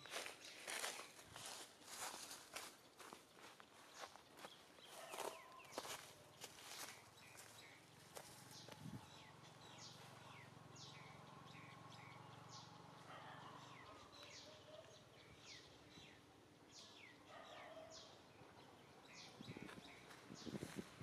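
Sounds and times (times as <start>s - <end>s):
faint bird chirps: 0.0s - 20.9s.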